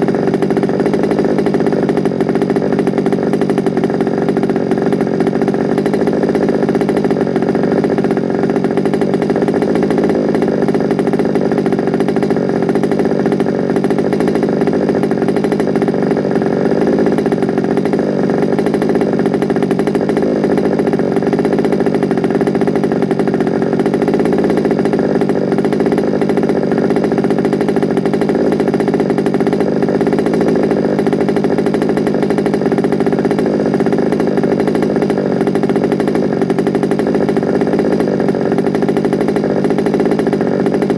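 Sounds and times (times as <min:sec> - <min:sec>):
small two-stroke engine running: 0:00.0 - 0:40.9.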